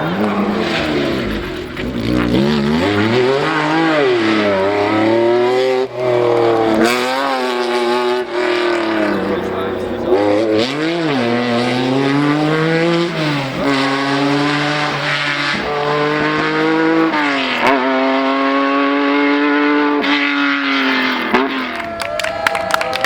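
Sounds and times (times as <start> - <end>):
rally car engine accelerating: 0.0 - 22.1.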